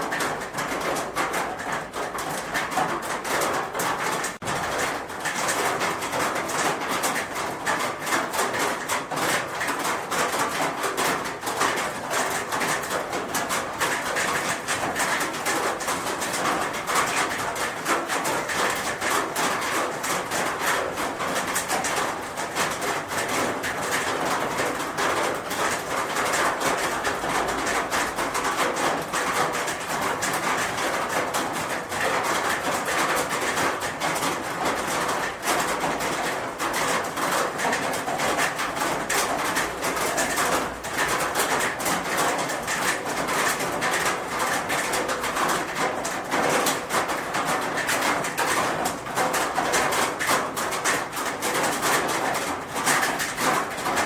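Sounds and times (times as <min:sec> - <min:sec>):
rain pattering on a roof: 0:00.0 - 0:54.0.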